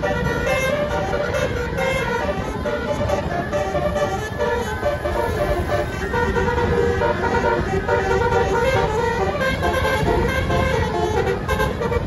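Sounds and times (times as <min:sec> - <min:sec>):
bus air horn tune: 0:00.0 - 0:12.0.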